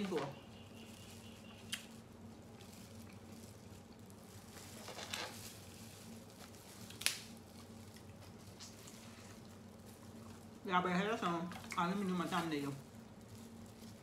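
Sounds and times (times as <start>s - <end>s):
crab shell crackling: 0.4s - 14.0s.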